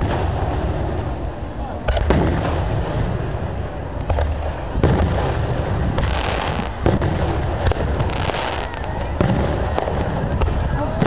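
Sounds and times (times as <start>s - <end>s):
crackling hiss: 0.0s - 11.0s
firework shells bursting: 0.0s - 11.0s.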